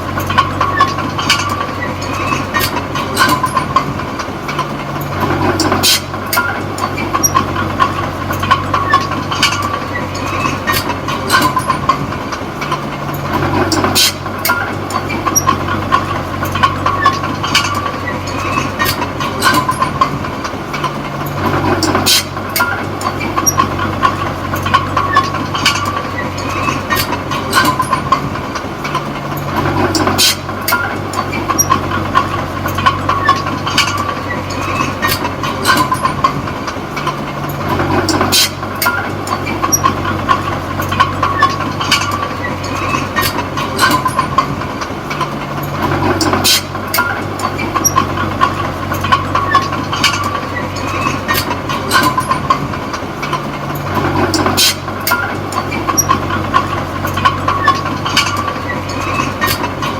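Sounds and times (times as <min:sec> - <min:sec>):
bulldozer diesel engine under load: 0:00.0 - 0:59.9
steel tracks clanking and squealing: 0:00.0 - 0:59.9.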